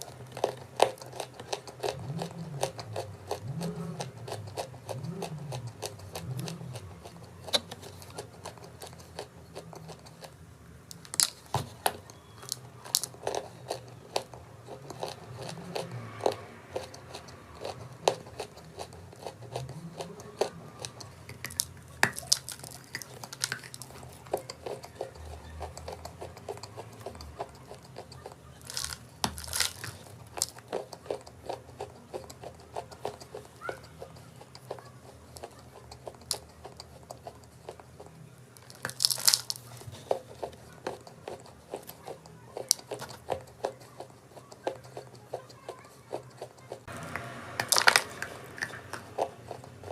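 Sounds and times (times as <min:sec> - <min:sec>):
chewing crunchy chalk: 0:00.0 - 0:49.9.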